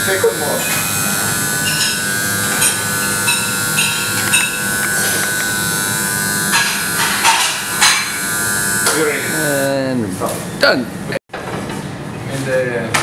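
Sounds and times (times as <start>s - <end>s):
kitchen extractor and oven fans humming: 0.0s - 13.0s.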